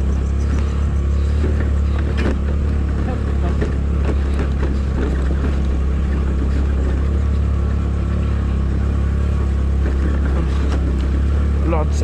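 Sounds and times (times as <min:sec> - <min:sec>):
motor scooter engine running: 0:00.0 - 0:12.0.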